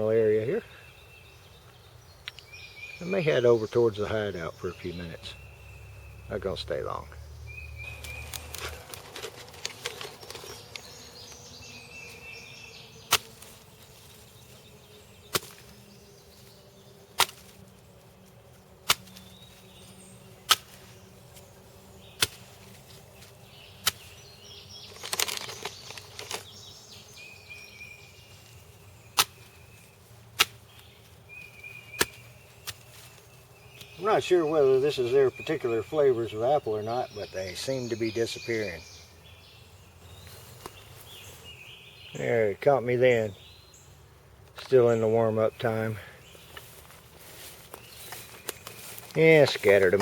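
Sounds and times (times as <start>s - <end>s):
faint insects trilling: 0.0s - 50.0s.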